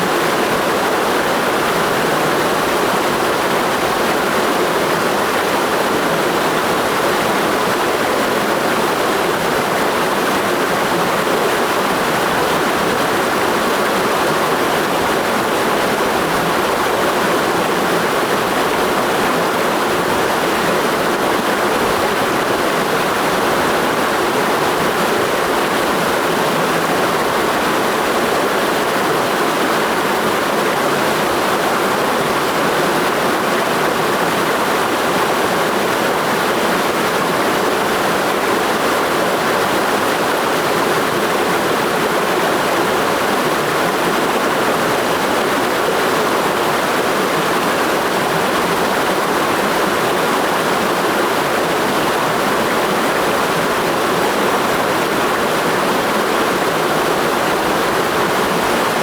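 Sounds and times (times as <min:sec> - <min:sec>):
rushing mountain stream: 0:00.0 - 0:59.0.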